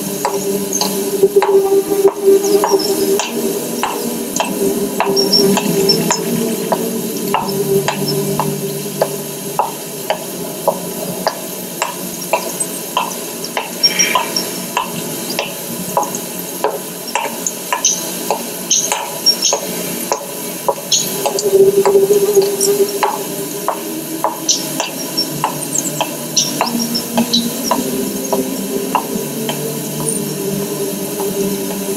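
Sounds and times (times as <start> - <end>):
rain hiss: 0.0 - 31.9.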